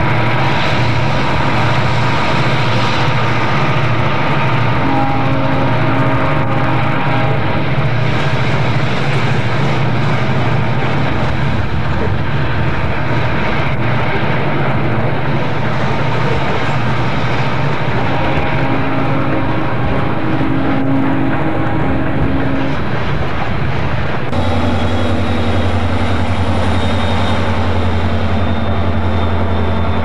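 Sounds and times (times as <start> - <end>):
diesel locomotive engines droning: 0.0 - 30.0
train cars rumbling on rails: 0.0 - 30.0.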